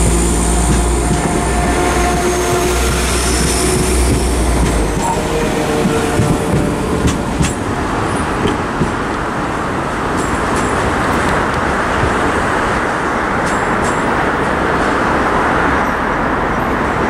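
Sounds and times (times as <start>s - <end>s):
wheels clicking over rail joints: 0.0s - 16.6s
steady rushing background: 0.0s - 17.0s
train engine and wheels rumbling: 0.0s - 17.0s.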